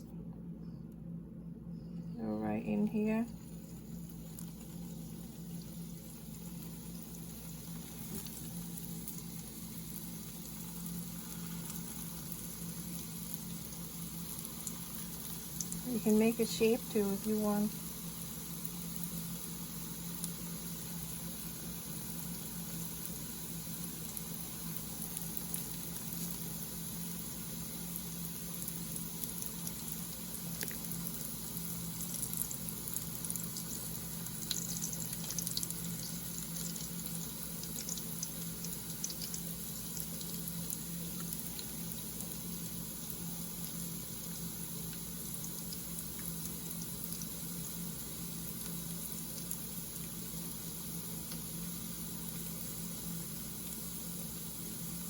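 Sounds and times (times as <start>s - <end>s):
steady hum and hiss: 0.0s - 55.0s
hot oil sizzling: 3.1s - 55.0s.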